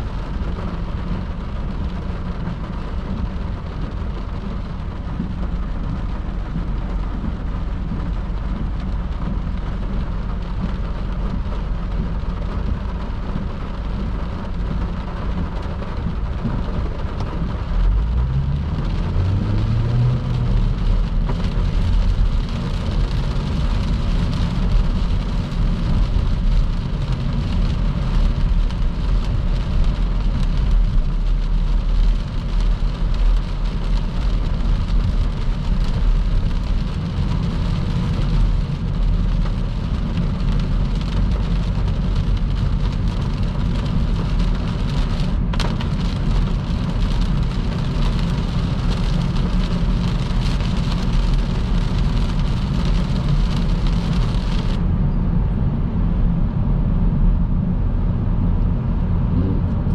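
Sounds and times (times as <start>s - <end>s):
rain and spray hissing: 0.0s - 54.8s
tyres rumbling on road: 0.0s - 59.9s.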